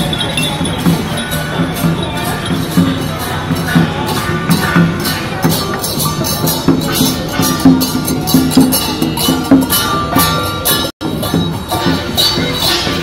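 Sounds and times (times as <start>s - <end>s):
cymbals: 0.0s - 13.0s
hand drums: 0.0s - 13.0s.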